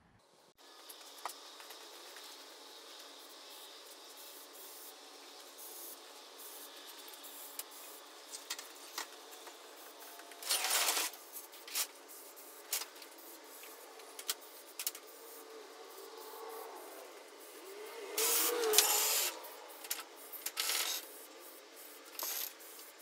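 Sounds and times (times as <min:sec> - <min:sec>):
aerosol spray hissing: 0:00.6 - 0:23.0.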